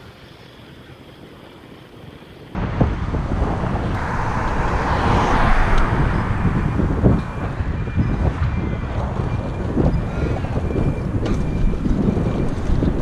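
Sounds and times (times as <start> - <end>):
wind on camera microphone: 2.6 - 13.0.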